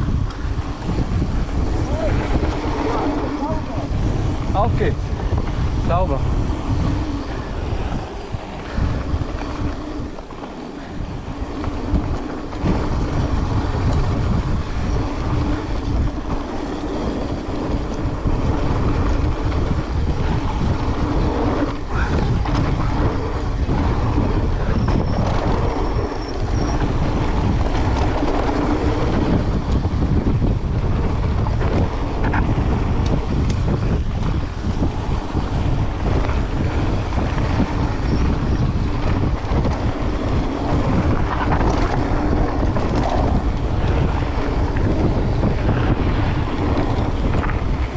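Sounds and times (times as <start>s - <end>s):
bike tyres rattling on gravel: 0.0s - 47.9s
wind on microphone: 0.0s - 47.9s.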